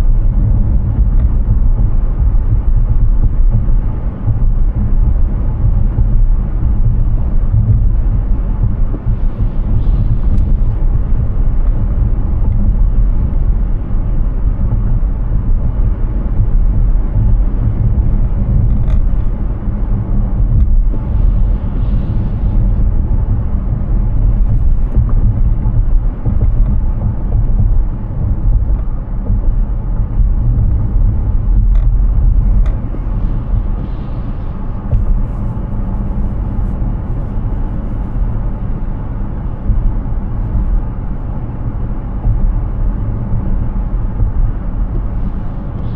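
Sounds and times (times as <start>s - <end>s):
tyre and wind road noise: 0.0s - 45.9s.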